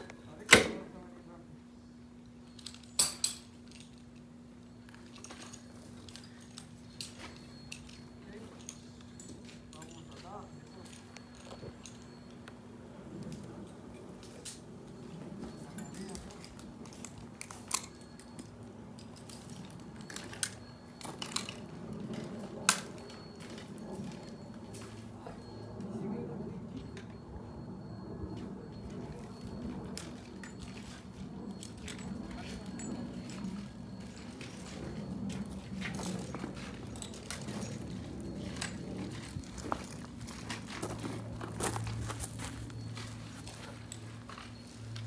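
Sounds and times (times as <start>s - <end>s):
low steady hum: 0.0s - 45.0s
sharp metallic clinks: 2.2s - 45.0s.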